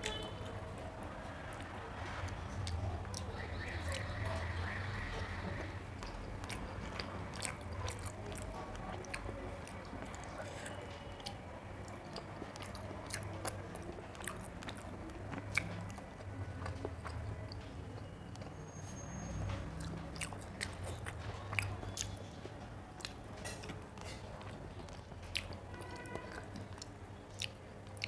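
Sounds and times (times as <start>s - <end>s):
chewing and mouth clicks: 0.0s - 28.0s.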